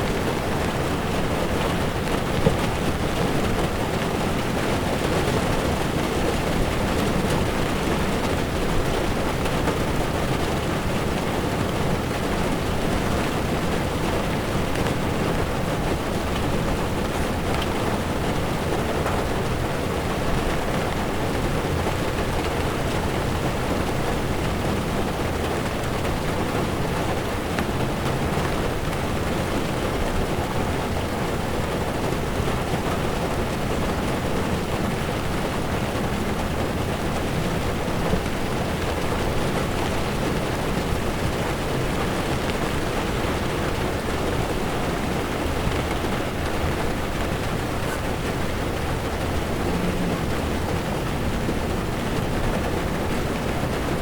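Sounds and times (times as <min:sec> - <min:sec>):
heavy rain on car windshield: 0:00.0 - 0:54.0
tyres on wet road: 0:00.0 - 0:54.0.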